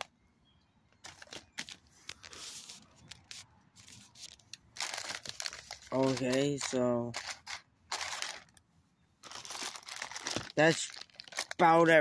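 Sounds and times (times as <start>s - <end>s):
plastic bag rustling and crinkling: 1.0s - 8.6s, 9.2s - 12.0s.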